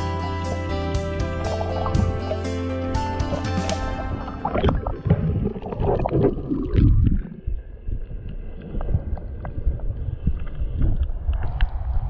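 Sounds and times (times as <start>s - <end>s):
water sloshing and rumbling: 1.3s - 12.0s.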